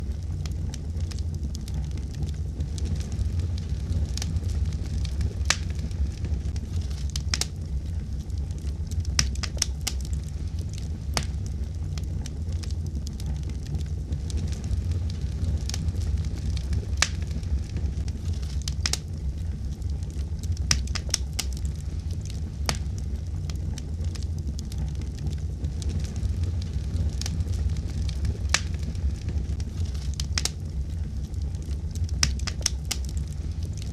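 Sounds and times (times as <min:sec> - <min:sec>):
campfire crackling and popping: 0:00.0 - 0:33.9
low rumble: 0:00.0 - 0:33.9
sharp fire cracks: 0:00.0 - 0:33.9.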